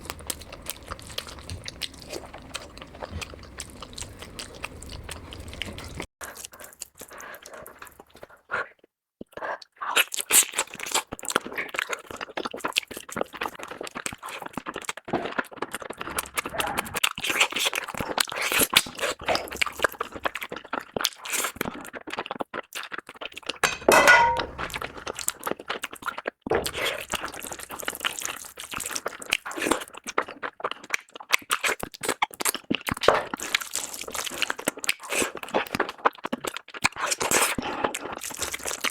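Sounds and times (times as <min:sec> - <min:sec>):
wet chewing and smacking: 0:00.0 - 0:23.8, 0:24.4 - 0:38.9.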